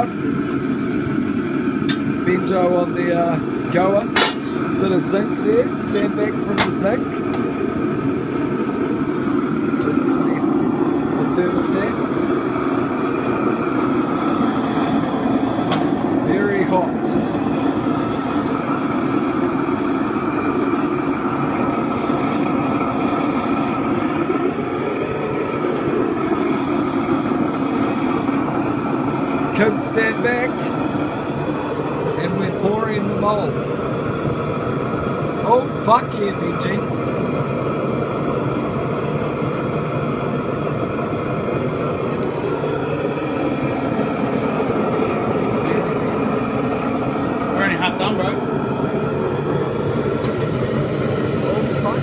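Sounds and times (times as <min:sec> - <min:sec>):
gas burner rushing: 0:00.0 - 0:52.0.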